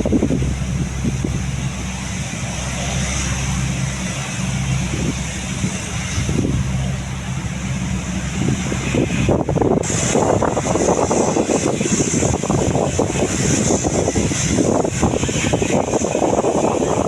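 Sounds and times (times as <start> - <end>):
low engine drone: 0.0 - 17.0
hiss: 0.1 - 17.0.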